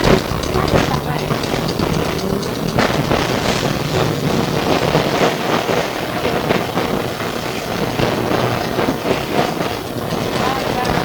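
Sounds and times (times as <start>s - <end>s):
body rattling and clattering: 0.0s - 11.0s
low hum: 0.0s - 11.0s
tram wheels on rails: 0.0s - 11.0s.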